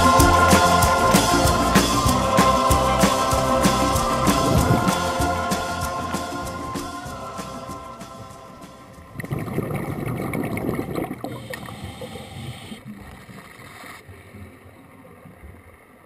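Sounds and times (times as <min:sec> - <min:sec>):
underwater bubbling rush: 0:00.0 - 0:15.7.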